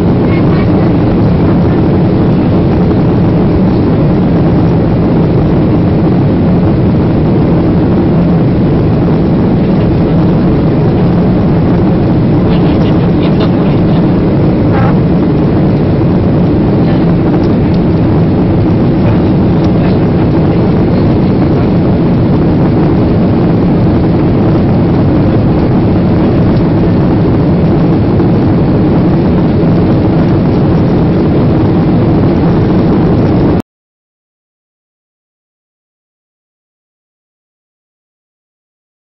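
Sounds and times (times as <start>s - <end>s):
airplane engine hum: 0.0s - 33.6s.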